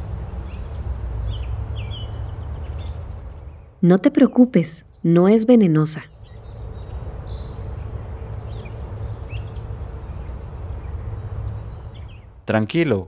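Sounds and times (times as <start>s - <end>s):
birds chirping: 0.0s - 13.0s
low rumble and hiss: 0.0s - 13.0s.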